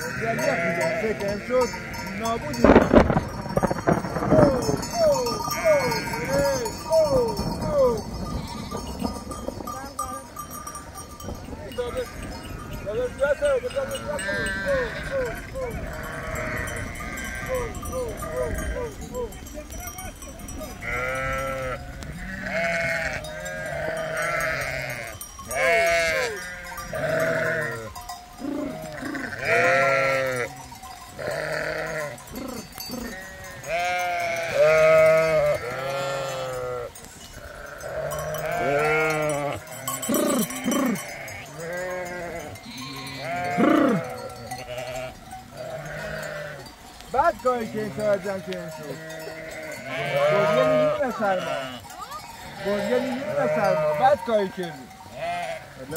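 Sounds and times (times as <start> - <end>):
sheep and goats bleating: 0.0 - 55.9.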